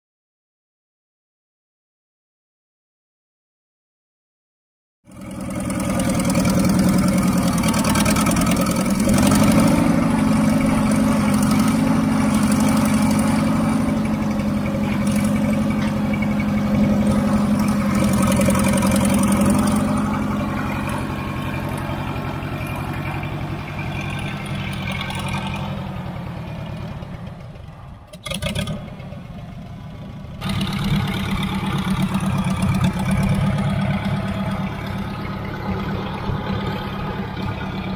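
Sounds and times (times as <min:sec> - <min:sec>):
tractor engine running: 0:05.1 - 0:37.9.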